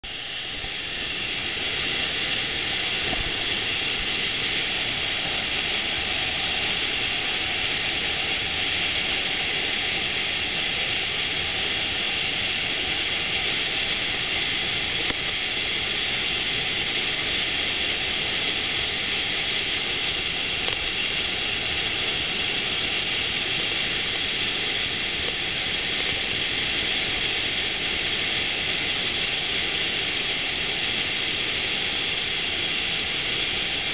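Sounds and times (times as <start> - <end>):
rushing water of wave machine: 0.0 - 33.9.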